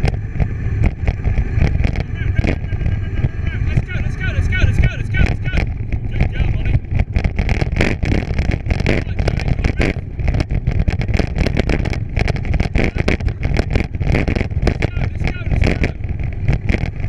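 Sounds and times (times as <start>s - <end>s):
bicycle rattling and knocking: 0.0s - 17.0s
wind rumbling on microphone: 0.0s - 17.0s.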